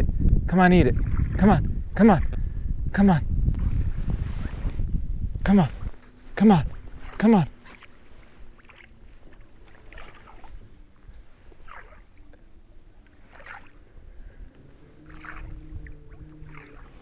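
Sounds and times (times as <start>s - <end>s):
water swishing against boat: 0.9s - 2.3s, 3.5s - 17.0s.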